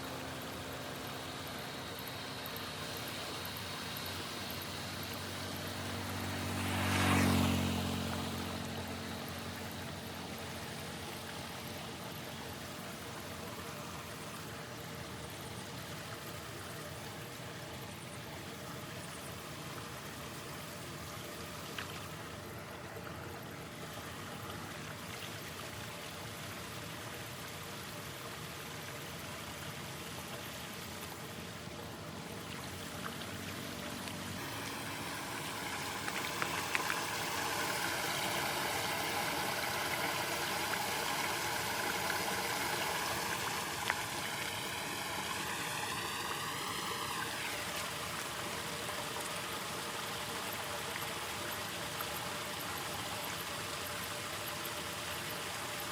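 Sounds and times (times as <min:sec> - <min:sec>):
floodwater rushing down drain: 0:00.0 - 0:55.9.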